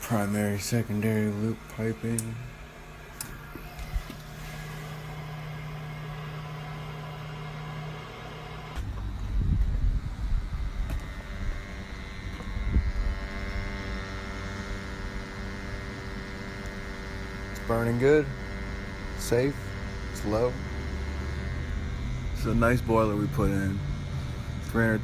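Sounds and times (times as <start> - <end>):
burner lighting rumble: 0.0 - 25.0
gas boiler humming: 0.0 - 25.0.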